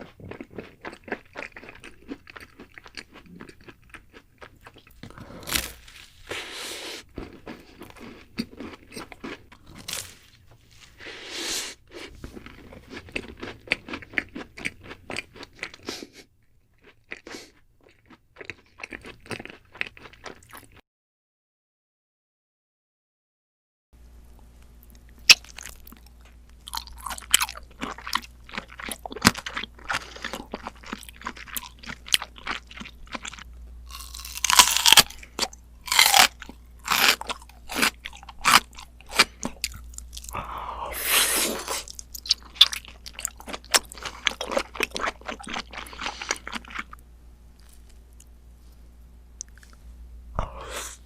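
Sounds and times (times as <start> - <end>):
crisp crunching and chewing: 0.0 - 10.8, 11.9 - 15.9, 16.7 - 20.8, 24.8 - 40.5, 41.5 - 48.4.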